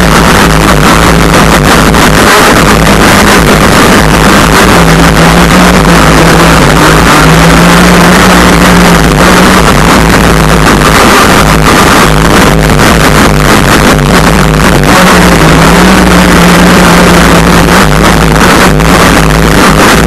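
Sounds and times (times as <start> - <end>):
two-stroke boat engine at high revs: 0.0 - 20.0.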